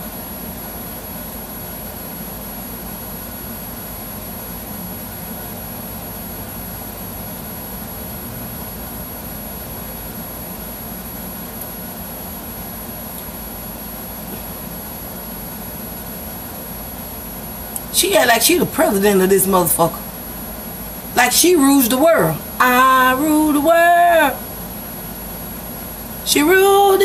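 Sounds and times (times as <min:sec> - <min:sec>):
steady background noise: 0:04.8 - 0:27.0.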